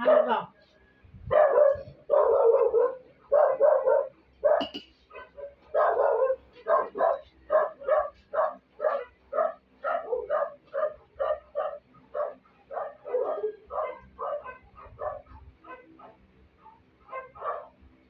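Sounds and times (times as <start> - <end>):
dogs barking: 0.0 - 0.5, 1.3 - 17.8.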